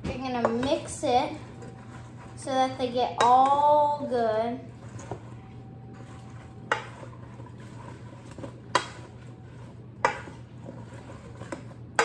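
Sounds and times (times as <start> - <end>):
low hum: 0.0 - 12.0
spoon stirring apples in a bowl: 0.1 - 12.0.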